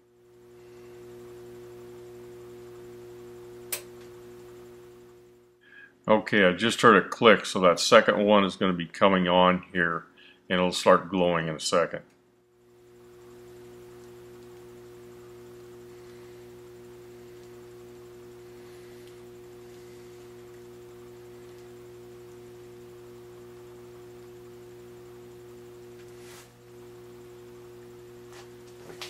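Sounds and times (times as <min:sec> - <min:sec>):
electric furnace humming: 0:00.0 - 0:29.0.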